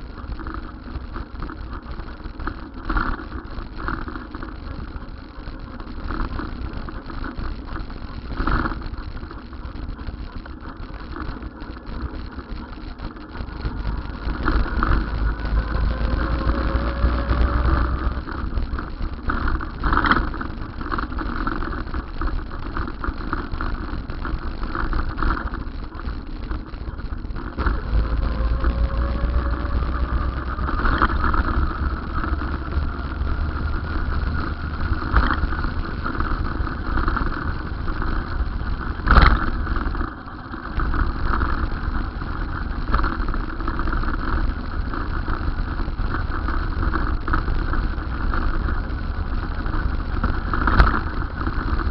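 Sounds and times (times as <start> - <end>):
faint rising whine: 0.0 - 51.9
vehicle running rumble: 0.0 - 51.9.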